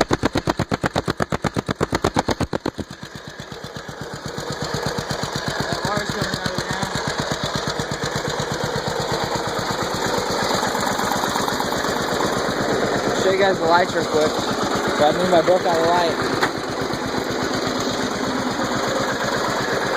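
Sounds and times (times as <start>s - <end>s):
riding mower engine running: 0.0s - 19.9s.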